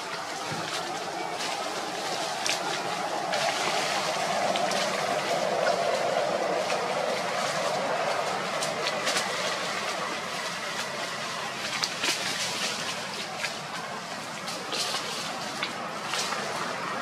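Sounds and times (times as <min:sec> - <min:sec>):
dry leaves rustling and crackling: 0:00.0 - 0:17.0.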